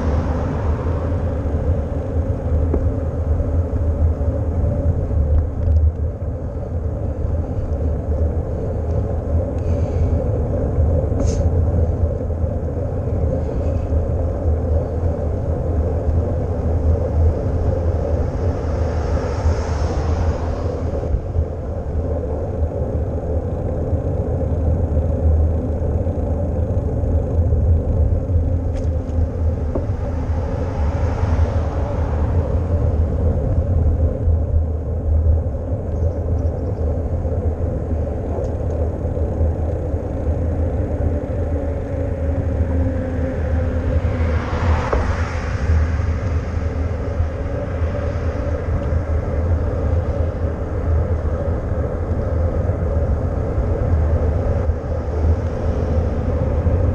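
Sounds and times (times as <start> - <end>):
bicycle road noise: 0.0 - 56.9
vehicles passing: 0.0 - 56.9
wind rumbling on microphone: 0.0 - 56.9.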